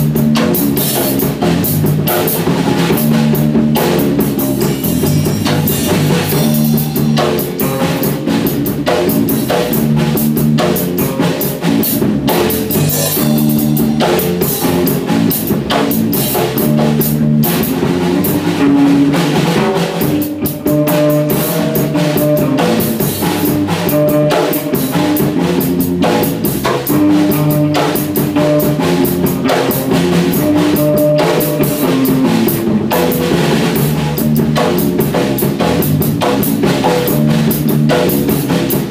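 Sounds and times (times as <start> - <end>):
drum kit: 0.0 - 38.9
electric bass guitar: 0.0 - 38.9.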